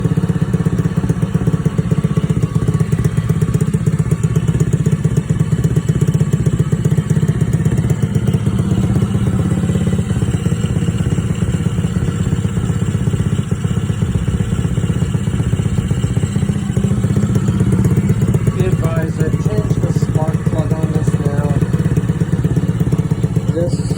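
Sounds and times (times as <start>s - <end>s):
small engine idling rough: 0.0s - 23.9s.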